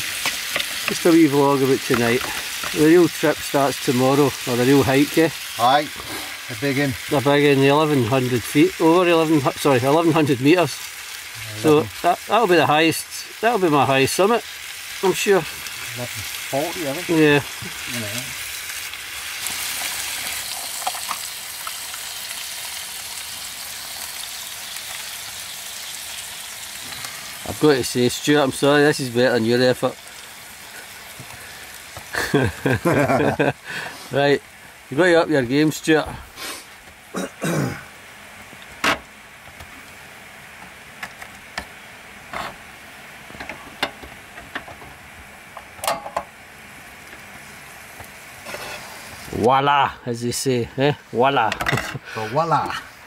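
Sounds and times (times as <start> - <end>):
meat sizzling in a pan: 0.0 - 52.6
gas hob hissing: 0.0 - 53.0.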